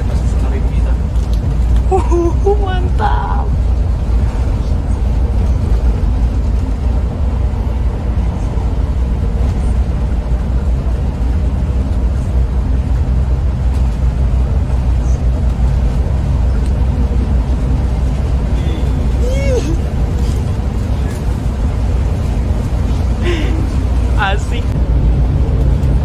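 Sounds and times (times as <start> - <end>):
bus engine and road noise rumble: 0.0 - 26.0.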